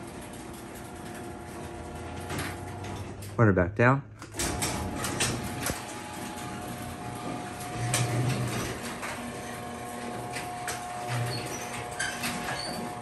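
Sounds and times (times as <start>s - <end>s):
garage door opener motor hum: 0.0s - 3.4s, 4.2s - 13.0s.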